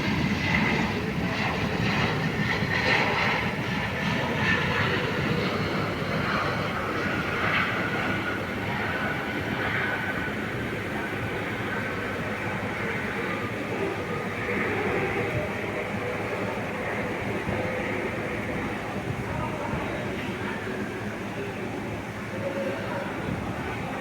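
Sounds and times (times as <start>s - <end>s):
jet engines rushing with whine: 0.0s - 24.0s.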